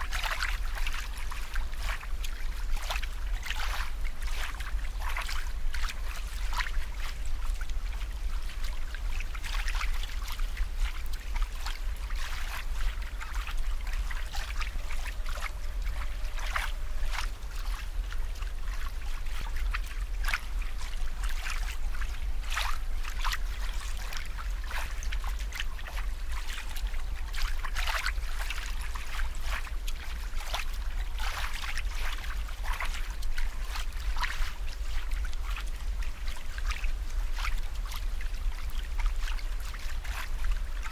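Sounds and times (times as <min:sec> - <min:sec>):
steady low hum: 0:00.0 - 0:40.9
water splashing spurts: 0:00.0 - 0:40.9
water trickling and bubbling: 0:00.0 - 0:40.9.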